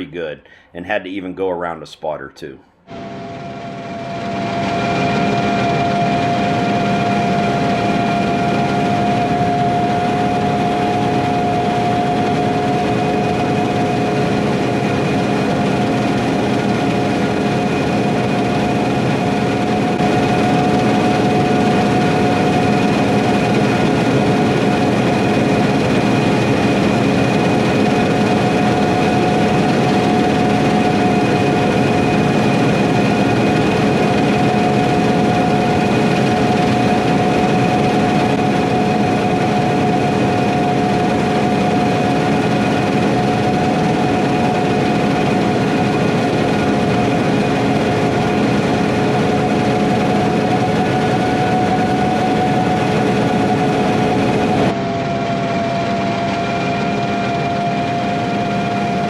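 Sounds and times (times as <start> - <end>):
high whine: 2.7 - 59.0
harvest machinery engine drone: 2.9 - 59.0.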